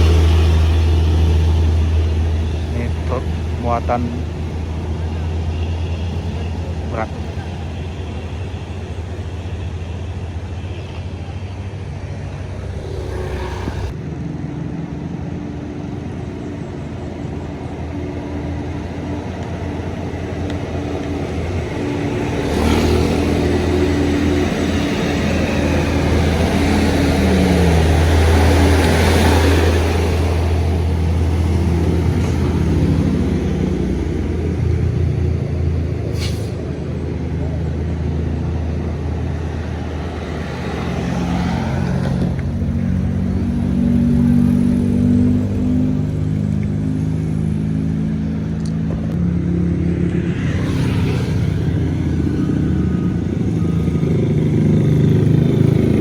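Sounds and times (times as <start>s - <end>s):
truck diesel engine passing: 0.0s - 56.0s.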